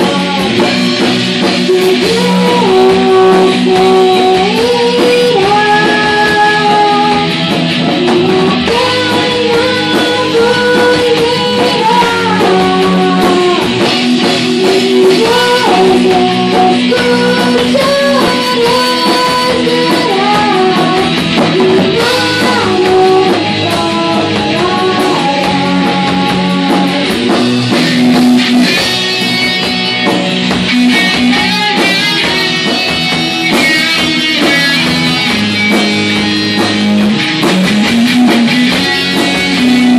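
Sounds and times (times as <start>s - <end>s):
drum kit: 0.0s - 39.9s
electric guitars: 0.0s - 39.9s
person singing: 0.0s - 39.9s.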